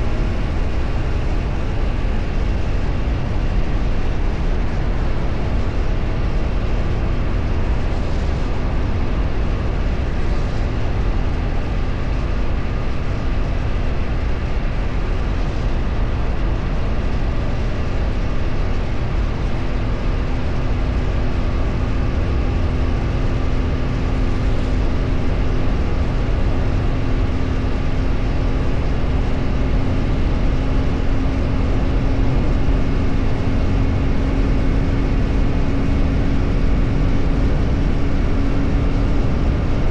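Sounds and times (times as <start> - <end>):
vehicle wind and road noise: 0.0 - 39.9.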